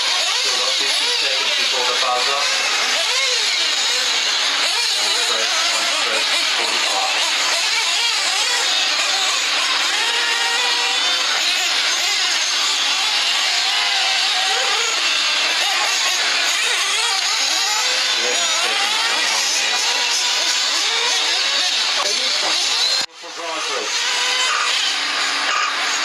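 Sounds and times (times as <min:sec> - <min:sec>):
small engines of rc cars buzzing: 0:00.0 - 0:26.0.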